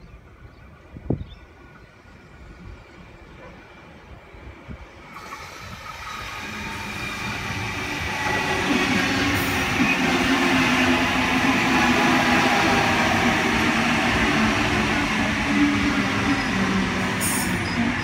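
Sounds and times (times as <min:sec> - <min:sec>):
electric train hum: 0:00.2 - 0:18.0
wheels rumbling on rail: 0:00.3 - 0:18.0.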